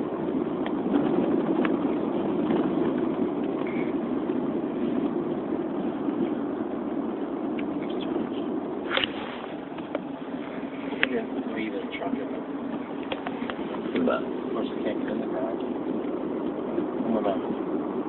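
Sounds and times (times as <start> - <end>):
vehicle driving rumble: 0.0 - 18.0.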